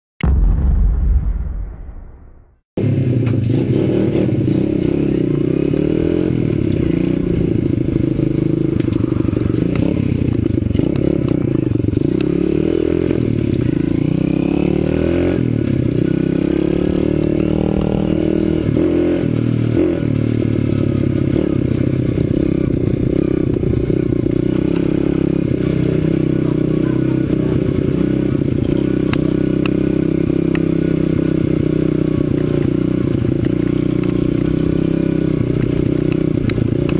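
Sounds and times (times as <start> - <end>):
motorbike engine revving: 2.8 - 36.9
bike rattling and scraping: 3.2 - 14.9, 15.5 - 26.7, 27.3 - 36.9.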